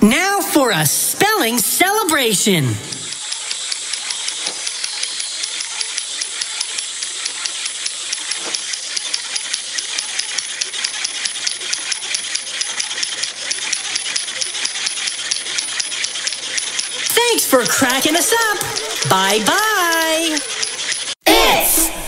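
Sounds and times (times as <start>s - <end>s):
clockwork toy whirring: 0.5s - 21.4s
toy cymbals clinking: 2.0s - 21.2s.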